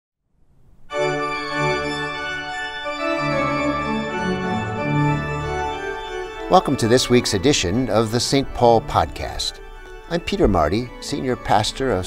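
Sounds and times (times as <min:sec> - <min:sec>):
organ playing held chords: 0:00.9 - 0:12.0.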